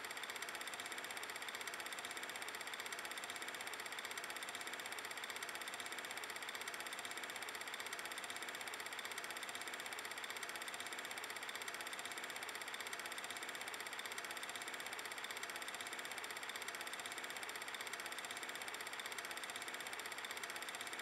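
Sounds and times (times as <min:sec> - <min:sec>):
film projector clatter: 0:00.0 - 0:21.0.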